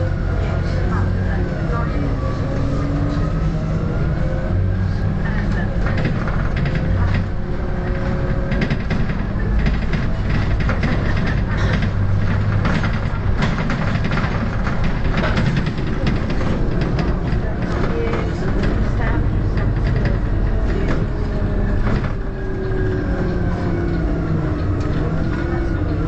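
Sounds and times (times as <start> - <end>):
bus body rattling and clicking: 0.0 - 26.0
bus engine droning: 0.0 - 26.0.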